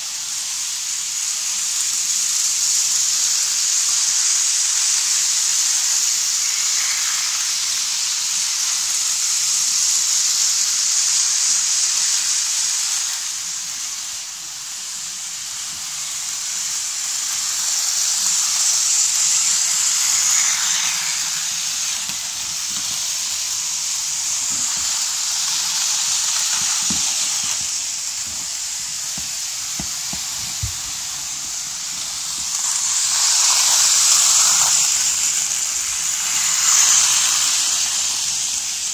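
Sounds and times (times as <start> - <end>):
model train motors whirring: 0.0 - 38.9.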